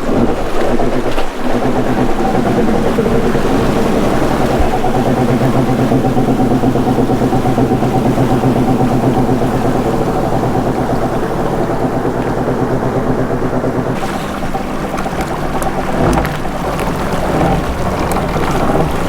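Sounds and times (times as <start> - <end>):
personal watercraft engine running: 0.0 - 19.0.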